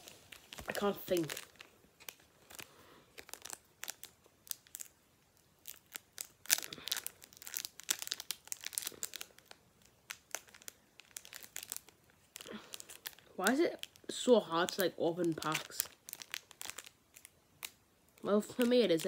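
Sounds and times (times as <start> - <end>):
foil wrapper crinkling and tearing: 0.0 - 19.0.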